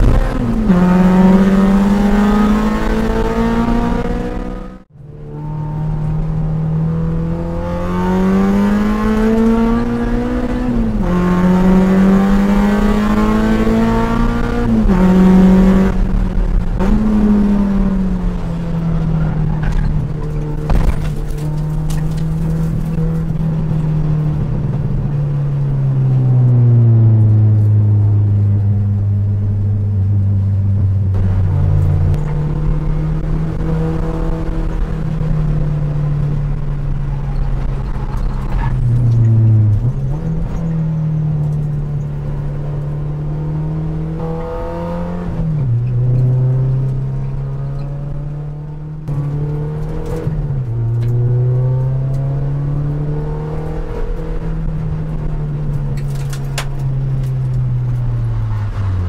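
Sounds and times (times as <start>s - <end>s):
car engine at speed: 0.0s - 59.0s.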